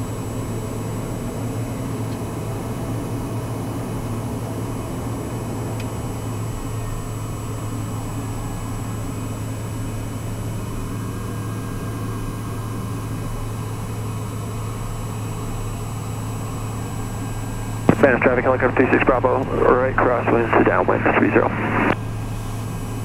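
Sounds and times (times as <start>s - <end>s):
turboprop engine idling: 2.6s - 23.0s.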